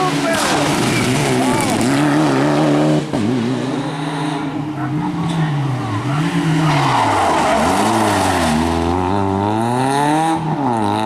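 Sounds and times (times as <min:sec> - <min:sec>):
rally car engine accelerating: 0:00.0 - 0:11.0.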